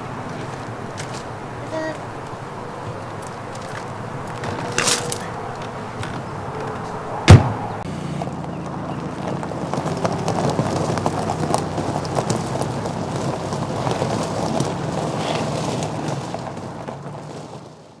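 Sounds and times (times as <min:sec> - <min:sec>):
car engine humming: 0:00.0 - 0:18.0
tyres crunching on gravel: 0:00.0 - 0:18.0.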